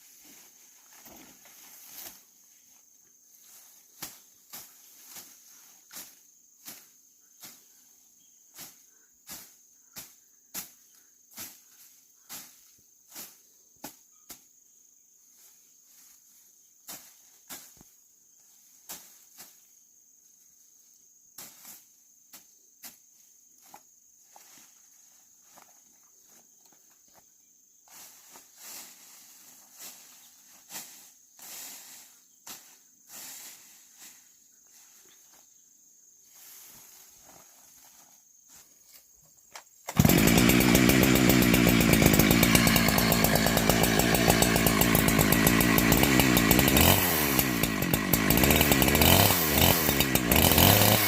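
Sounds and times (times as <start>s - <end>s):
crickets buzzing: 0.0s - 51.0s.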